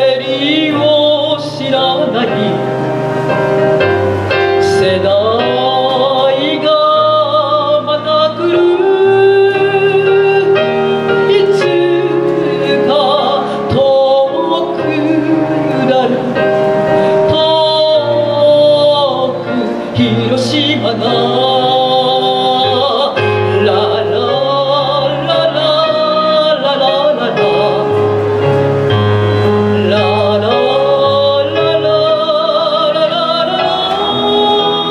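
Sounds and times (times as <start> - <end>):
instrumental accompaniment: 0.0 - 34.9
woman singing into a microphone: 0.0 - 34.9.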